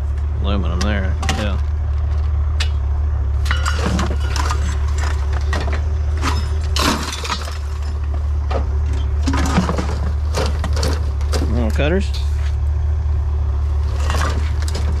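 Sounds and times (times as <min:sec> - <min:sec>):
scrap metal clanking: 0:01.2 - 0:12.5, 0:13.8 - 0:15.0.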